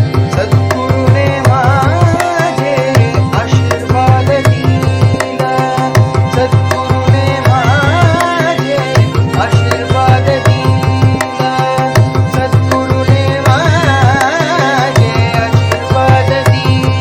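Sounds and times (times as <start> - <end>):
harmonium sustained notes: 0.0 - 17.0
mridangam rhythm: 0.0 - 17.0
person singing: 0.0 - 17.0.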